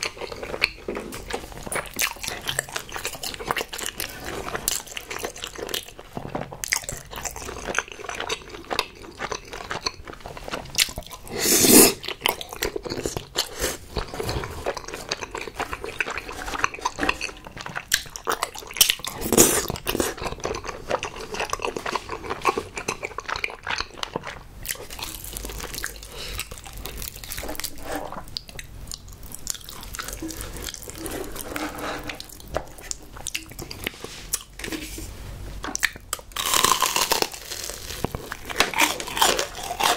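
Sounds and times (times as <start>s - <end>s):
chewing and biting: 0.0s - 34.6s, 35.8s - 39.9s.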